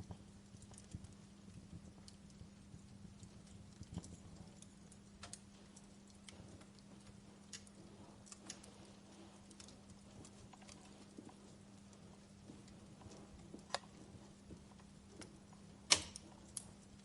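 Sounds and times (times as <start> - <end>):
faint steady hum: 0.0 - 17.0
wood fire crackling: 0.0 - 17.0.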